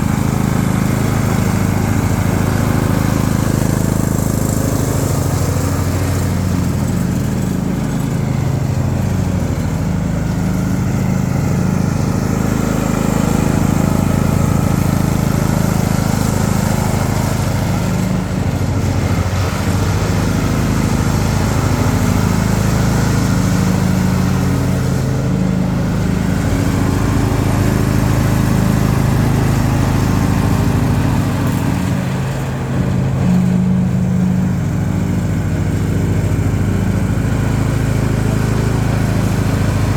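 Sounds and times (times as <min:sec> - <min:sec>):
riding lawnmower engine running: 0:00.0 - 0:39.9.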